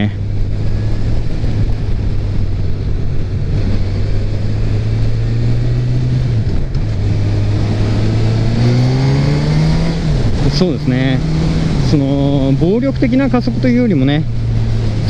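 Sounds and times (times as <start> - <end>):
motorcycle engine accelerating: 0.0 - 15.0
wind rush on microphone: 0.0 - 15.0.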